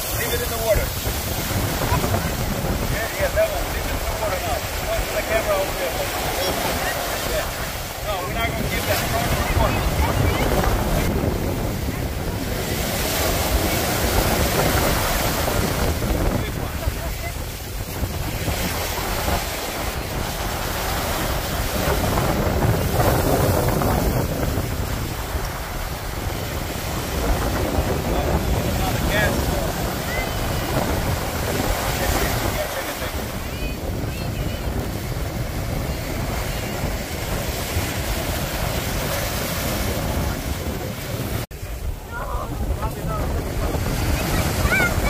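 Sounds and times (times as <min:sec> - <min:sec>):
ocean surf breaking: 0:00.0 - 0:45.0
wind buffeting microphone: 0:00.0 - 0:45.0.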